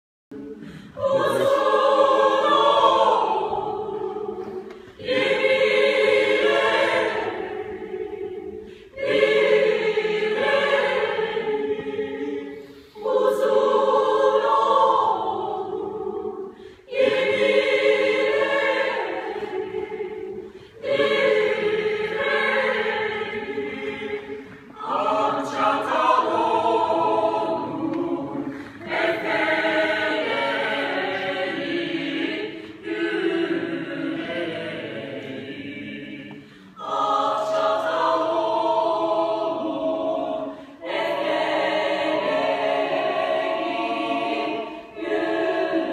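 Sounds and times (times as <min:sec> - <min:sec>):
mixed choir singing a cappella: 0:00.3 - 0:45.9.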